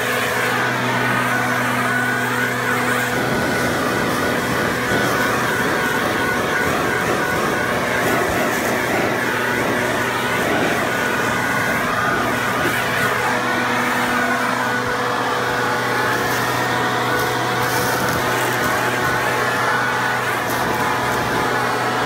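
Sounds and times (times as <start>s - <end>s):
air rushing from blower tube: 0.0s - 22.0s
leaf blower engine: 0.0s - 22.0s.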